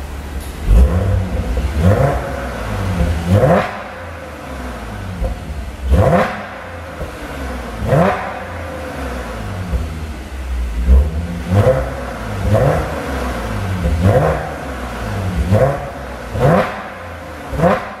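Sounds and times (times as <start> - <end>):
car engine revving: 0.6 - 18.0.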